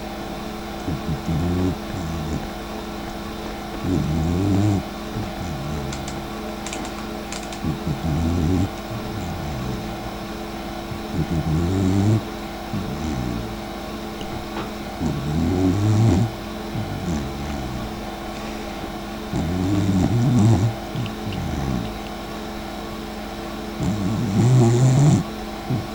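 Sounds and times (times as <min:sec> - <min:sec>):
dog snoring: 0:00.0 - 0:25.9
steady low hum: 0:00.0 - 0:25.9.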